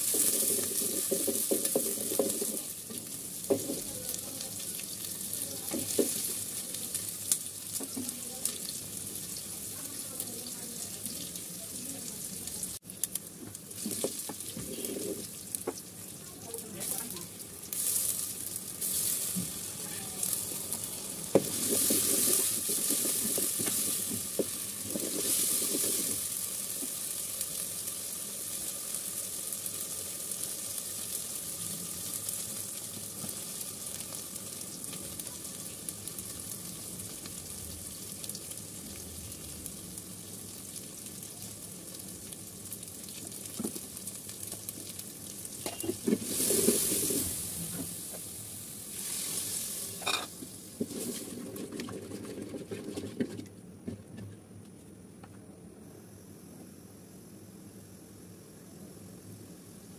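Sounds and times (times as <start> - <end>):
onions sizzling in oil: 0.0 - 51.7.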